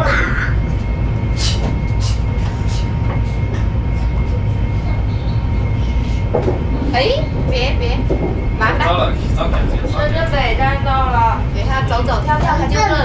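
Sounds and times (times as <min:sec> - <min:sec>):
faint constant whine: 0:00.0 - 0:13.0
train cabin rumble: 0:00.0 - 0:13.0.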